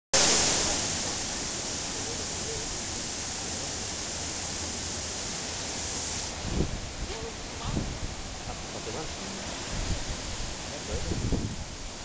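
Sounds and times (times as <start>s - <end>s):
waterfall pouring into pool: 0.2s - 12.0s.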